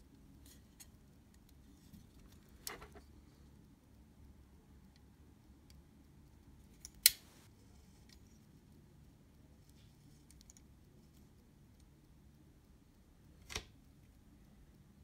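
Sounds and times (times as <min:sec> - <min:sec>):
faint ticks from small tools: 0:00.1 - 0:15.0.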